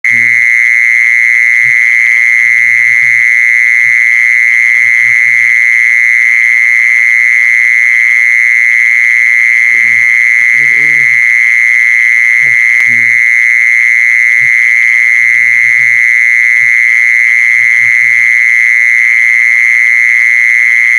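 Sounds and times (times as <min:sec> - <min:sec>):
mole cricket trilling: 0:00.0 - 0:20.9.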